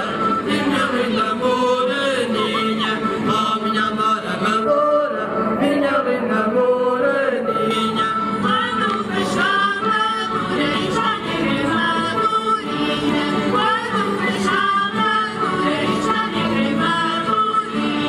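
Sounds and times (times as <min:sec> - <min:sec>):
guitar accompaniment: 0:00.0 - 0:06.6, 0:07.2 - 0:18.0
voices singing together: 0:00.0 - 0:18.0.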